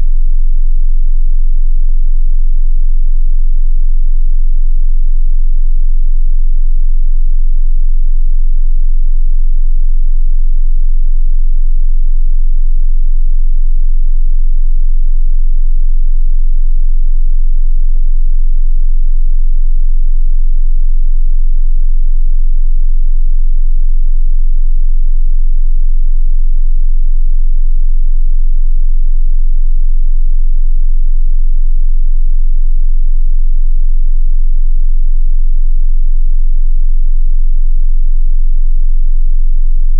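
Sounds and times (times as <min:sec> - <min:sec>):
sub-bass sine tone: 0:00.0 - 0:39.9.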